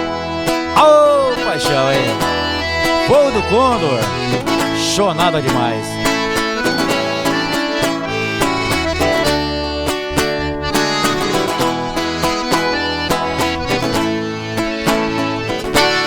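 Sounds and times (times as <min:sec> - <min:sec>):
accordion melody: 0:00.0 - 0:16.0
plucked strings: 0:00.0 - 0:16.0.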